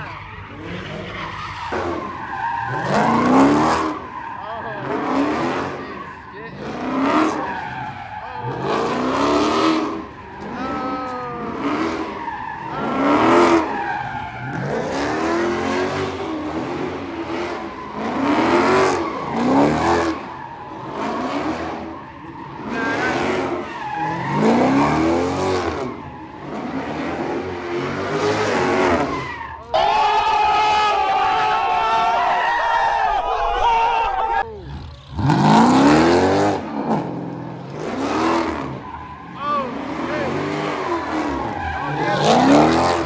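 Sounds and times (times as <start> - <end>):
car engines revving: 0.0 - 43.0
tyres squealing and skidding: 0.0 - 43.0.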